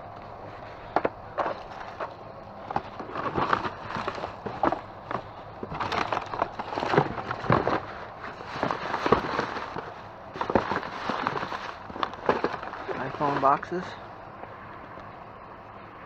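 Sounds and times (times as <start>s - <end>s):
hands rummaging through trash: 0.4s - 14.1s
clicks and knocks of boxes: 0.6s - 13.8s.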